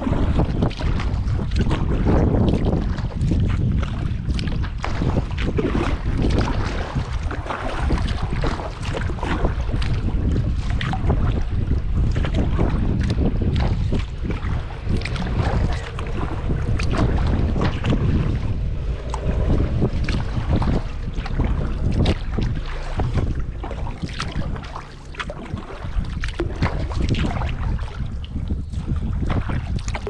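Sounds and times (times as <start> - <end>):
paddle splashing in water: 0.0 - 30.0
wind on microphone: 0.0 - 30.0.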